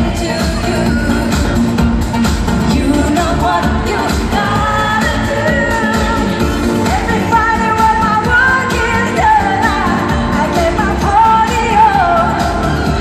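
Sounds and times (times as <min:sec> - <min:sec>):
live pop band with singer: 0:00.0 - 0:13.0.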